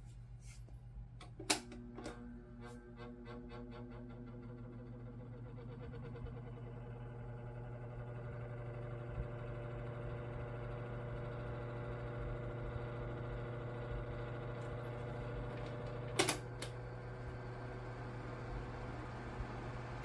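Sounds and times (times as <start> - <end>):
electric fan humming and rattling: 0.0 - 20.0.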